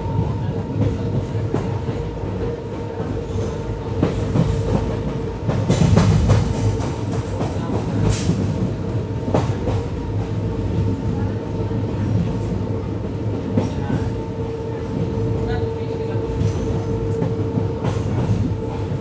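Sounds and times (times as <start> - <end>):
train rumble and hum: 0.0 - 19.0.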